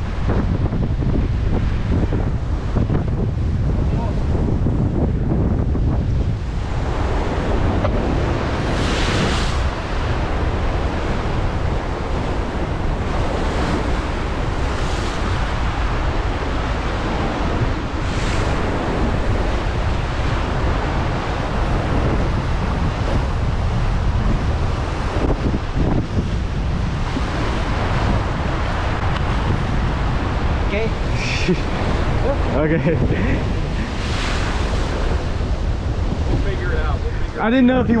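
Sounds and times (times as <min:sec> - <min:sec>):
wind buffeting microphone: 0:00.0 - 0:38.0
surf breaking on rocks: 0:05.8 - 0:37.8.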